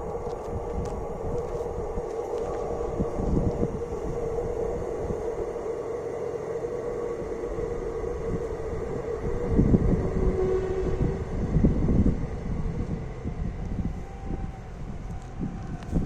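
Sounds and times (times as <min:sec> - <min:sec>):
diesel railcar whine and rumble: 0:00.0 - 0:16.0.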